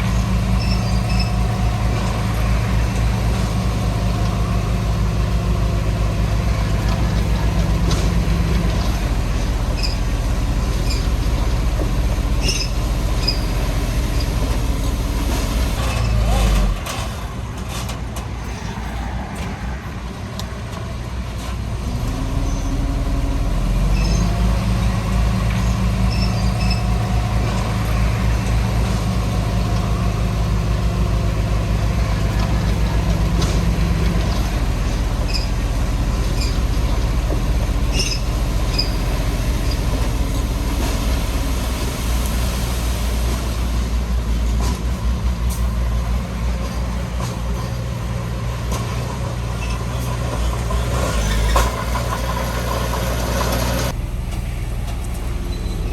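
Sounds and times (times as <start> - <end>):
heavy diesel engine running: 0.0 - 18.4, 19.4 - 55.9.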